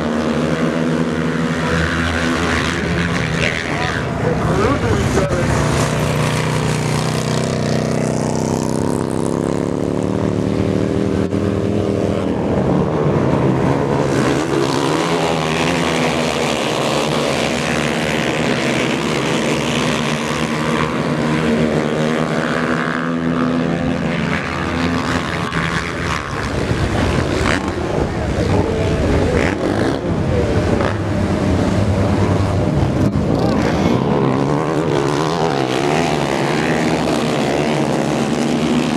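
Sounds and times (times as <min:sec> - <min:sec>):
racing motorcycle engines revving: 0:00.0 - 0:38.9.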